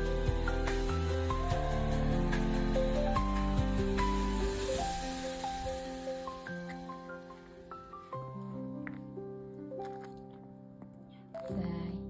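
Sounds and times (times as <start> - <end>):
soft gentle background music: 0.0 - 12.0.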